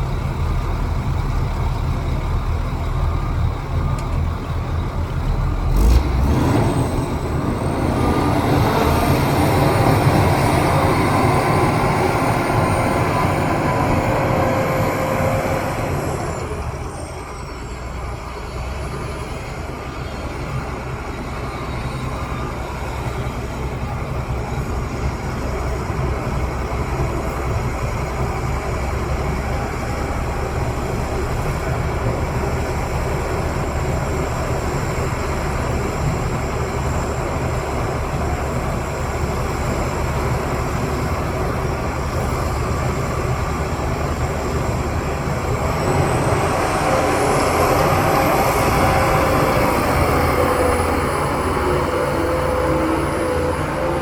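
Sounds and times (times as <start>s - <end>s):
diesel machinery engine rumble: 0.0s - 54.0s
high-pitched whine: 0.0s - 54.0s.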